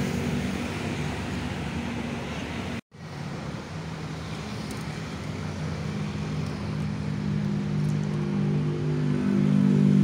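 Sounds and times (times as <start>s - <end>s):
road traffic hum: 0.0s - 10.0s.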